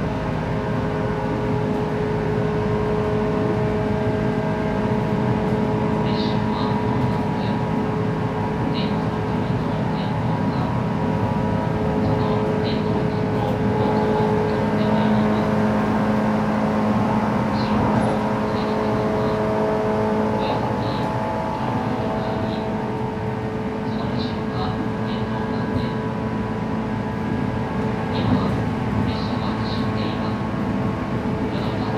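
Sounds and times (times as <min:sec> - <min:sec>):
wheels rumbling on rail: 0:00.0 - 0:31.9.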